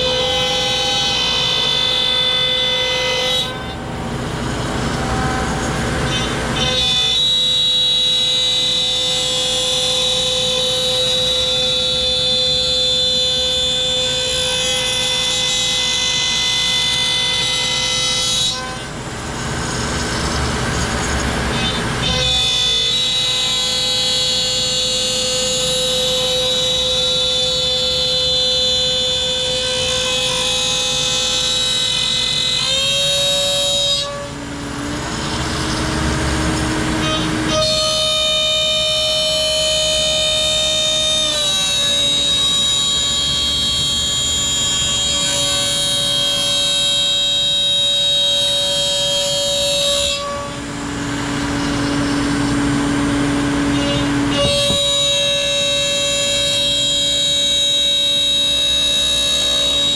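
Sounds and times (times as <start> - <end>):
router cutting wood whine: 0.0 - 59.9.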